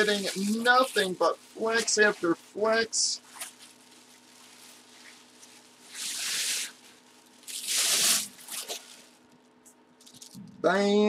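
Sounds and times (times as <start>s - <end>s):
bubble wrap rustling and crinkling: 0.0s - 10.4s.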